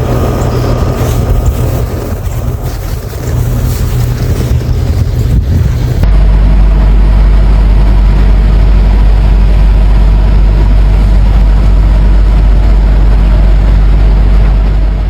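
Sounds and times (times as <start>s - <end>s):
rushing noise: 0.0s - 15.0s
vehicle engine rumbling: 0.0s - 15.0s.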